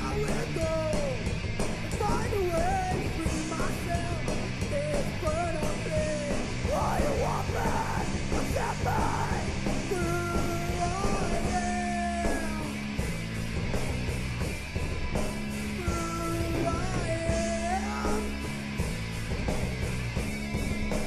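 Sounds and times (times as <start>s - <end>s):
rock music with singing: 0.0s - 21.0s.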